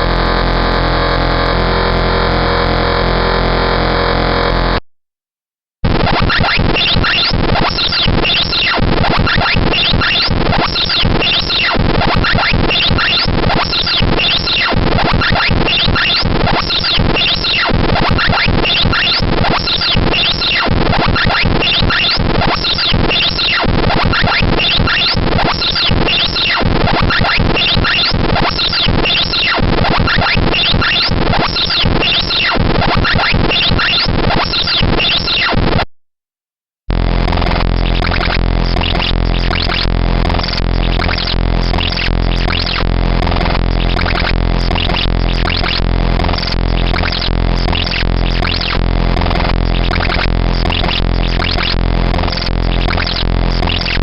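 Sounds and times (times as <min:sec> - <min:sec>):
harsh computer-generated noise loop: 0:00.0 - 0:04.8, 0:05.8 - 0:35.9, 0:36.9 - 0:54.0.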